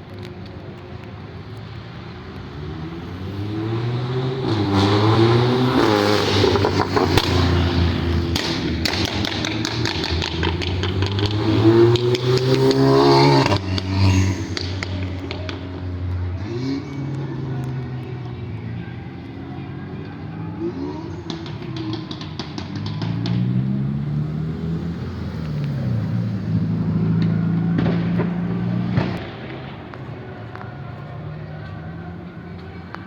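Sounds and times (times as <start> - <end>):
car engine revving: 2.0 - 30.6.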